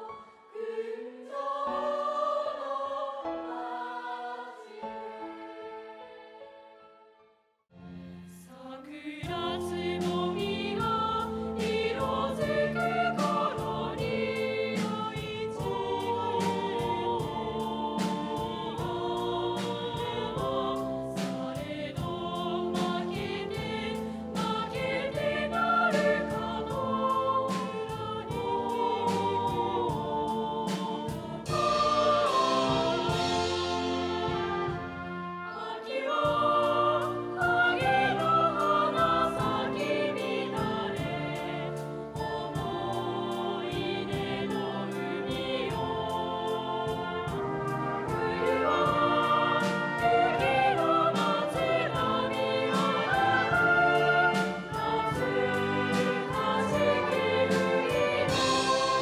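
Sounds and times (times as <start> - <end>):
choir singing over beat: 0.0 - 6.2, 8.5 - 59.0.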